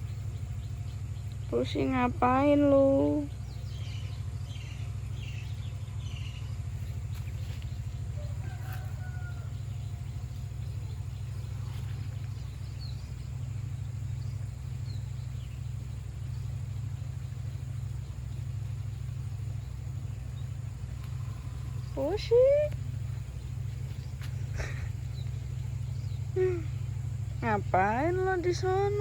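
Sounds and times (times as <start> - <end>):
faint bird chirps: 0.0 - 29.0
steady low hum: 0.0 - 29.0.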